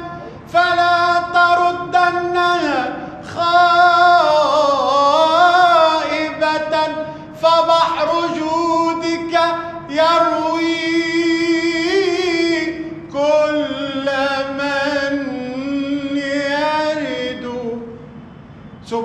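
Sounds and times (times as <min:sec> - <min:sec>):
man singing devotional chant: 0:00.0 - 0:18.0.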